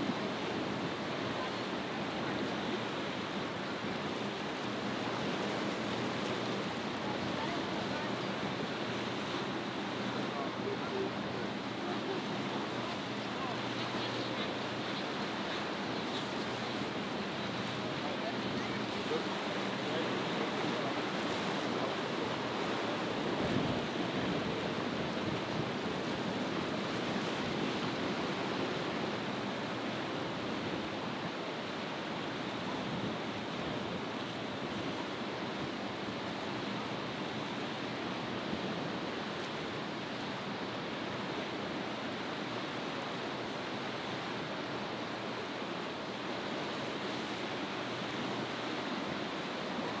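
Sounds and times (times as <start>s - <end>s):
breaking surf: 0.0s - 42.1s
wind: 0.0s - 50.0s.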